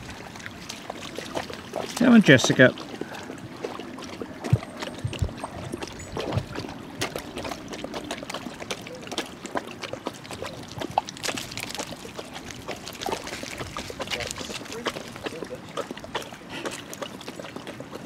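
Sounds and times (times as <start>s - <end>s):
dogs splashing through water: 0.0s - 18.0s.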